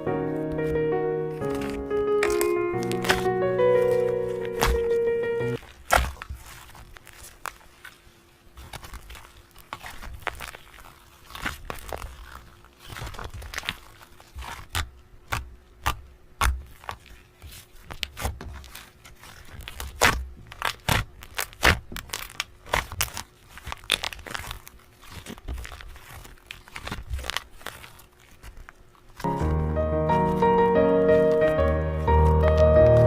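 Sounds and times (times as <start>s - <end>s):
cupcake tearing and crinkling: 0.5s - 29.3s.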